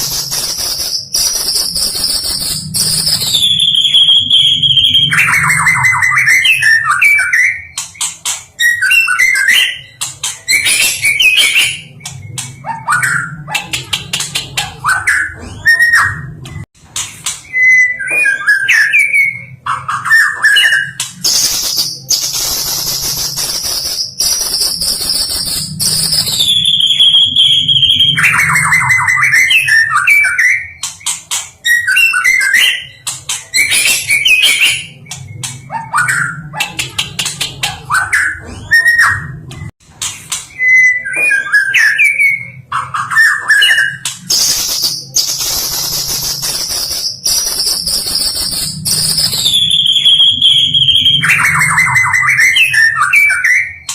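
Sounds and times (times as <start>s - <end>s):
songbird whistling and trilling: 0.0s - 13.6s, 17.4s - 36.6s, 40.5s - 53.9s.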